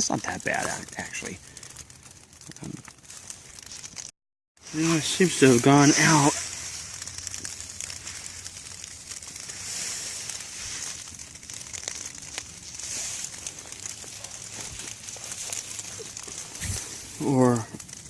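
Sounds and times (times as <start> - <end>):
light rain on a plastic tarp: 0.0 - 18.0.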